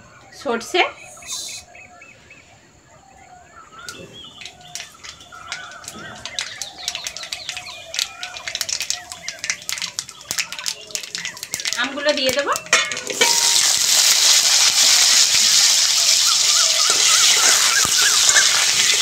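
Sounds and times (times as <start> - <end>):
birds chirping: 0.0 - 19.0
seeds crackling in hot oil: 3.4 - 19.0.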